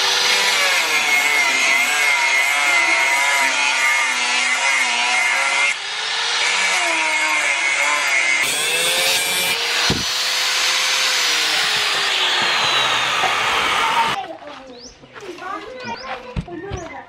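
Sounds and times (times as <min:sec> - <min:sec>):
angle grinder cutting steel: 0:00.0 - 0:14.2.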